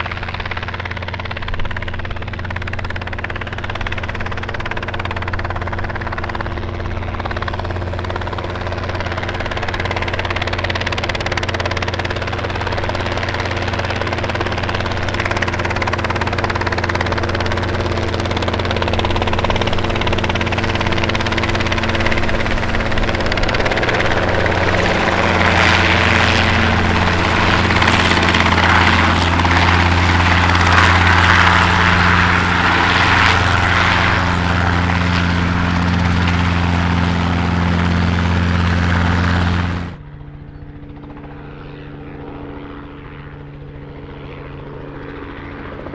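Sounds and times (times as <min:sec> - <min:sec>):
faint low aircraft engine hum: 0:00.0 - 0:45.9
helicopter engine and rotor: 0:00.0 - 0:45.9.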